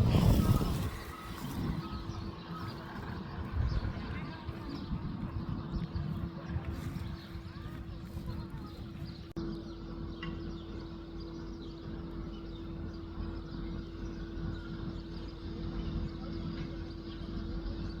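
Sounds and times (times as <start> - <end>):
low mechanical hum: 0.0 - 18.0
outdoor rumble: 0.0 - 18.0.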